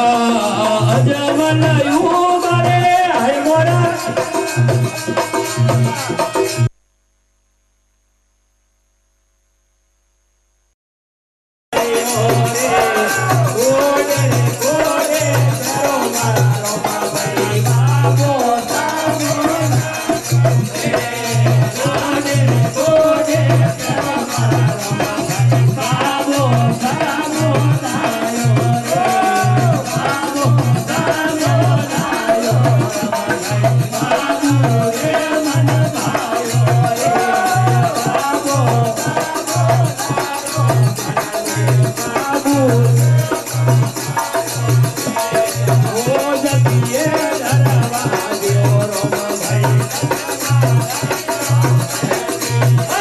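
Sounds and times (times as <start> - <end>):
voices singing: 0.0 - 6.5, 11.7 - 53.0
shaken rattle percussion: 0.0 - 6.7, 11.8 - 53.0.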